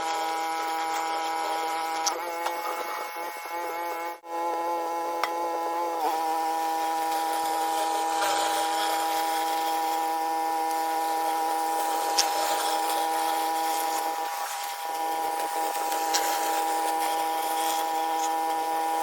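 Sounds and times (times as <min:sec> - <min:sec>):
pressure washer whine: 0:00.0 - 0:19.0.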